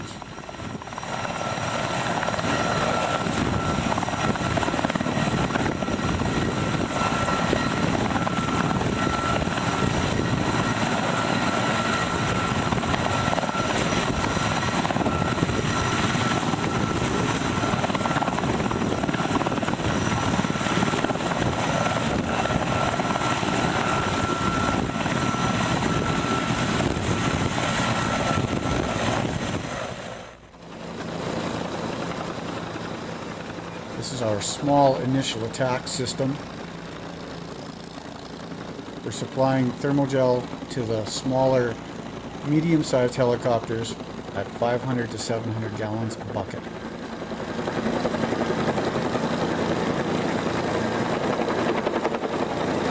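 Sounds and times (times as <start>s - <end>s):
helicopter hovering: 0.0s - 52.9s.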